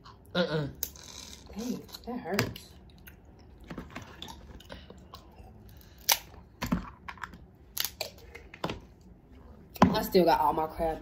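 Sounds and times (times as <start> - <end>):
faint room noise: 0.0 - 11.0.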